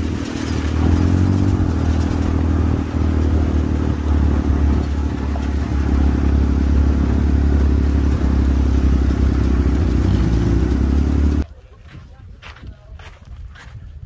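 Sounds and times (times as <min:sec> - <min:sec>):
buggy engine droning: 0:00.0 - 0:11.4.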